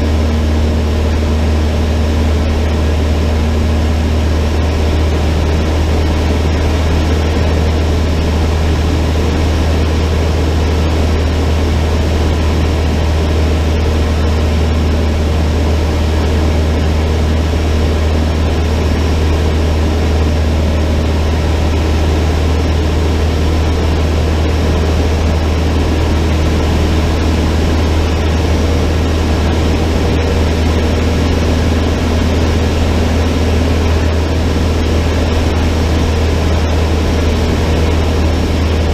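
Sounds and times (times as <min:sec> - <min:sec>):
propeller aircraft engine droning: 0:00.0 - 0:38.9.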